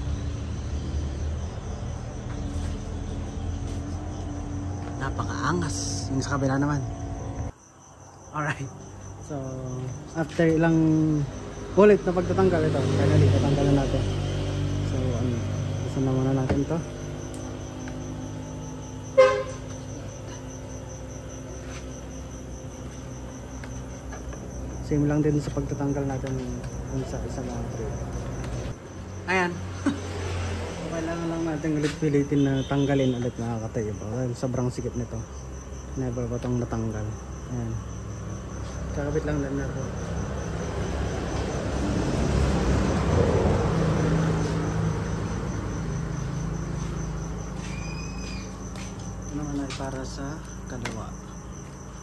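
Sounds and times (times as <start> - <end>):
passing vehicle rumble: 0.0 - 7.5, 8.8 - 51.5
crickets chirping: 0.0 - 52.0.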